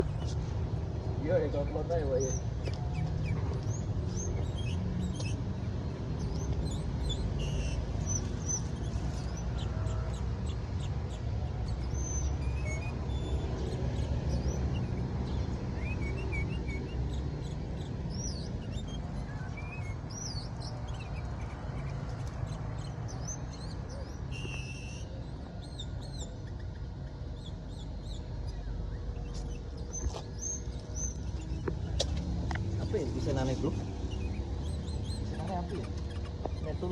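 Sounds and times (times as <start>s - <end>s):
bulbul chirping: 6.2s - 36.9s.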